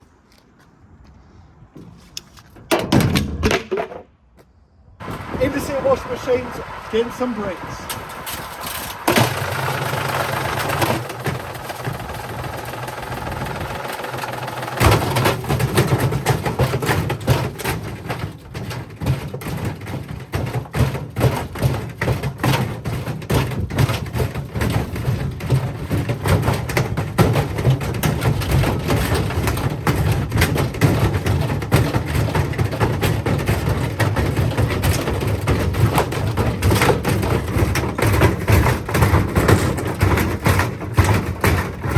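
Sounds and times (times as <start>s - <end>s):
washing machine running: 5.0s - 41.9s
bricks banging in drum: 7.9s - 41.9s.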